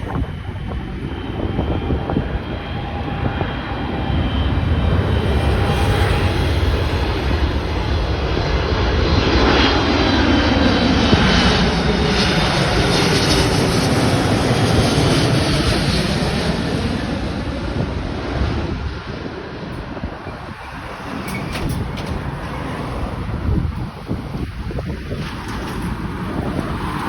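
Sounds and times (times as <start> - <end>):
jet engines passing: 0.0 - 27.0.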